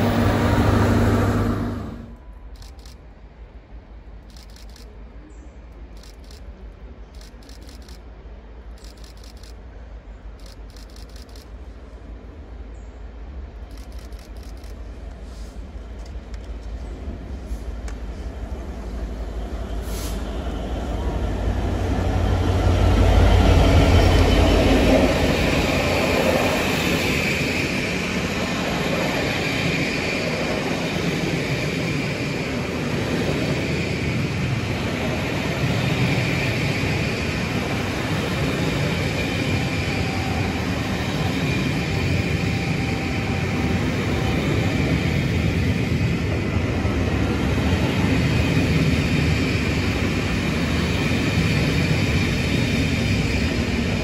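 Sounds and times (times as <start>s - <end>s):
train rumble and rail noise: 0.0s - 54.0s.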